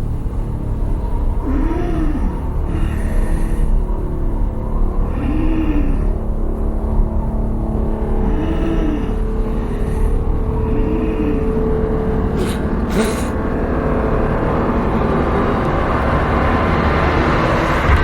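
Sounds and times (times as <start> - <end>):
low rumble with hum: 0.0 - 18.0.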